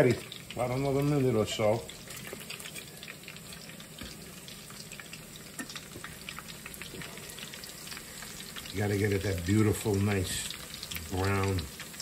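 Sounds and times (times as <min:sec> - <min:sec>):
meatballs sizzling in pan: 0:00.0 - 0:12.0.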